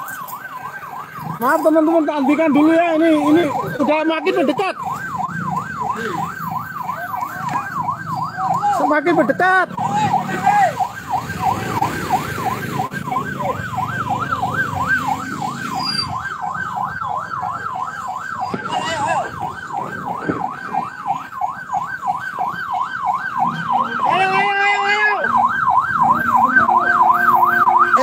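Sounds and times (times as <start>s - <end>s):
siren warbling: 0.0s - 28.0s.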